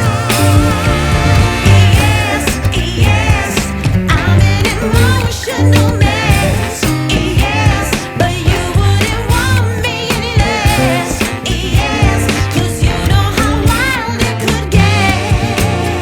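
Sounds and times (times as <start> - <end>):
pop music with female vocals: 0.0 - 16.0.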